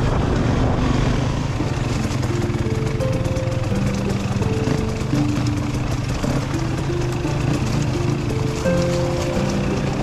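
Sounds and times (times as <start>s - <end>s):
motorcycle engine running: 0.0s - 10.0s
background music with held notes: 1.5s - 10.0s.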